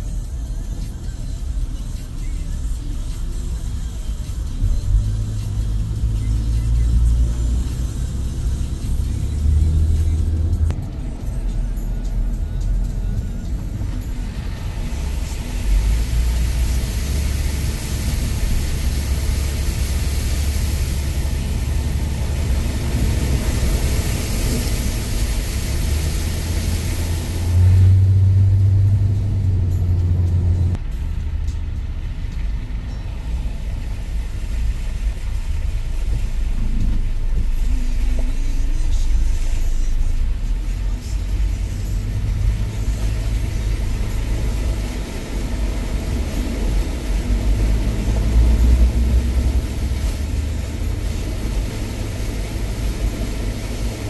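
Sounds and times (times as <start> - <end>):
car engine and road drone: 0.0 - 54.0
tyres hissing through water: 0.2 - 11.7, 12.3 - 54.0.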